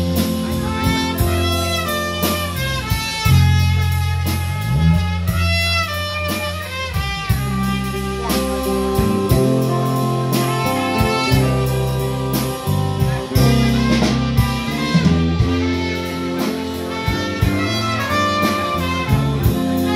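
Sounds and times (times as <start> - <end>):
drum kit cymbal beat: 0.0 - 19.9
electric bass: 0.0 - 19.9
trumpet lead line: 0.0 - 19.9.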